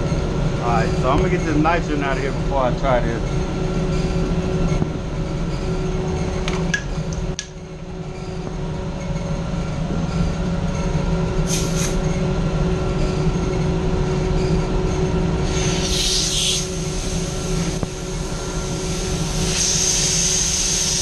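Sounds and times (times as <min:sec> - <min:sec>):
hvac unit humming: 0:00.0 - 0:21.0.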